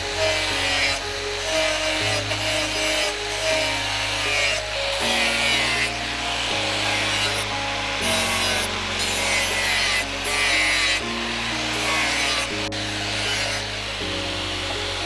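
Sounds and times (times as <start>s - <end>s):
background music with low chords: 0.0s - 15.0s
hand tool rasping on knife: 0.0s - 15.0s.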